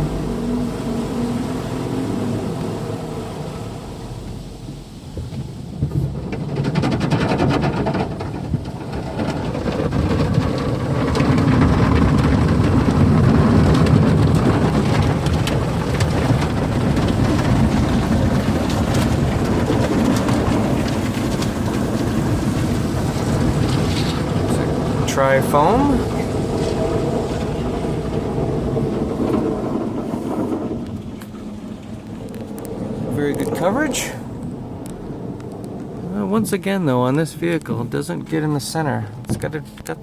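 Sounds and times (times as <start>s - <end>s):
water spray drumming on car body: 0.0s - 38.0s.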